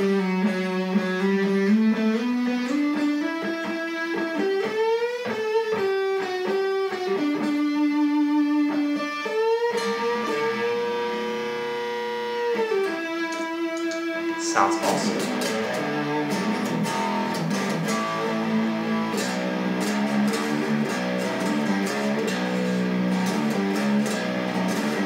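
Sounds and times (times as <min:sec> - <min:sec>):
distorted electric guitar lead: 0:00.0 - 0:25.0.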